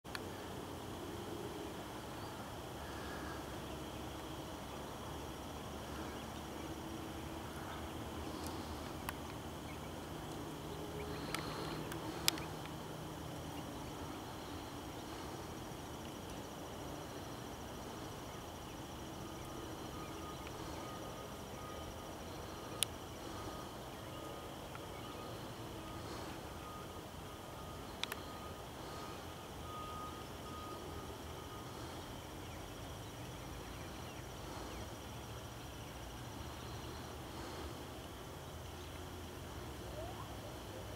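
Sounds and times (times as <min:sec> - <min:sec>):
low background rumble: 0:00.1 - 0:39.9
high insect trill: 0:00.1 - 0:40.9
outdoor hiss: 0:00.1 - 0:40.9.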